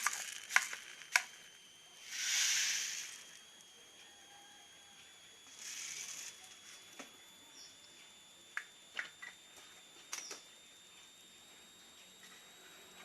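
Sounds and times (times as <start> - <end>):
faint high-pitched tone: 0.0 - 13.0.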